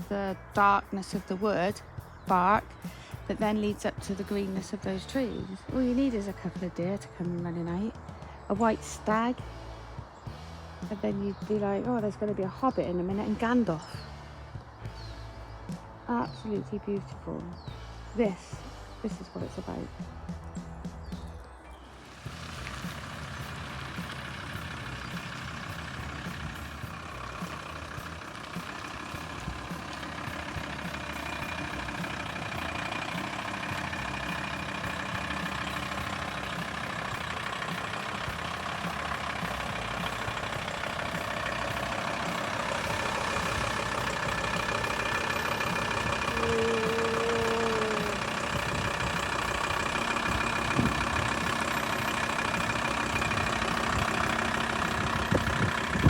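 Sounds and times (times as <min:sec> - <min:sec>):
road noise: 0:00.0 - 0:56.0
van engine running: 0:00.0 - 0:56.0.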